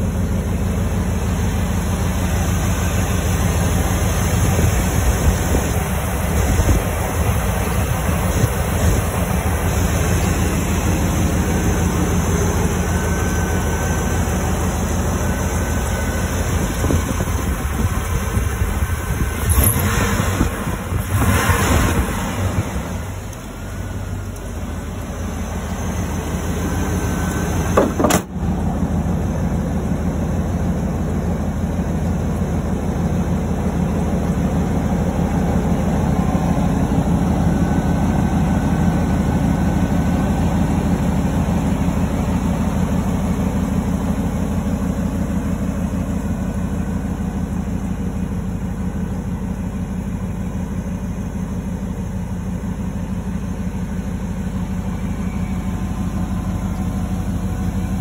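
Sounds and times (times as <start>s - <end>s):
pickup engine idling: 0.0s - 58.0s.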